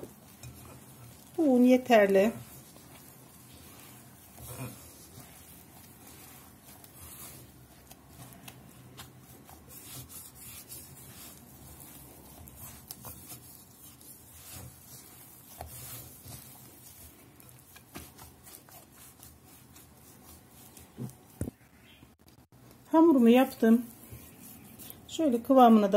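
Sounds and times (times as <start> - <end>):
hand kneading dough: 0.0 - 25.9.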